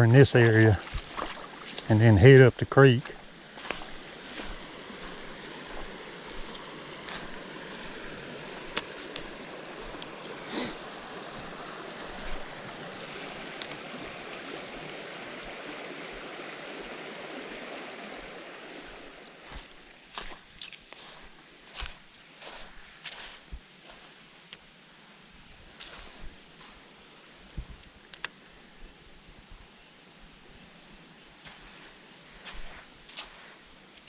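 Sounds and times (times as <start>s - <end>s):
creek water running: 0.0s - 29.4s, 30.1s - 34.0s.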